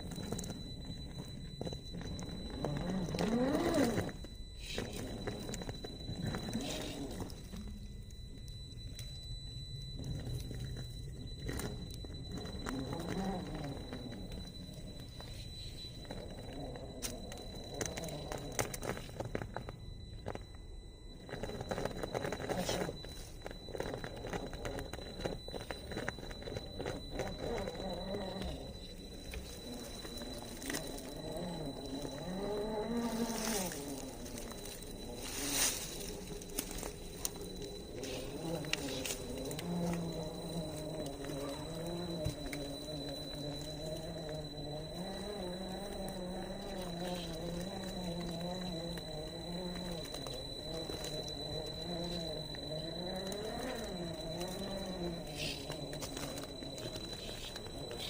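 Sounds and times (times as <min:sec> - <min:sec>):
clicks: 0:00.0 - 0:58.0
small electric motor whining: 0:00.0 - 0:58.0.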